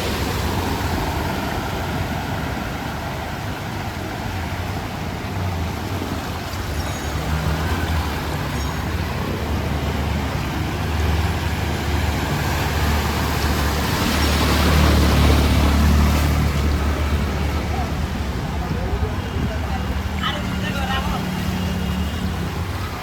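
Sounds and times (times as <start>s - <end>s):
road traffic engines humming: 0.0s - 23.0s.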